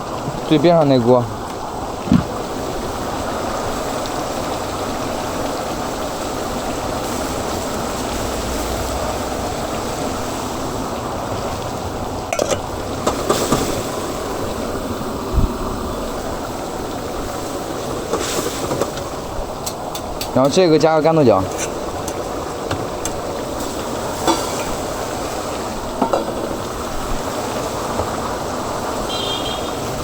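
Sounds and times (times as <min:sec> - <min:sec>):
chicken sizzling in woks: 0:02.4 - 0:15.2, 0:16.2 - 0:30.0.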